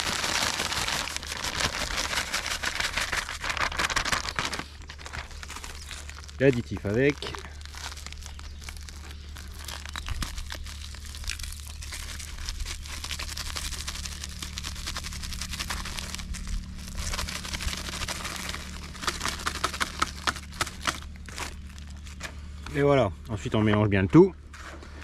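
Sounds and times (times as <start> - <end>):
plastic packaging crinkling: 0.0 - 22.3.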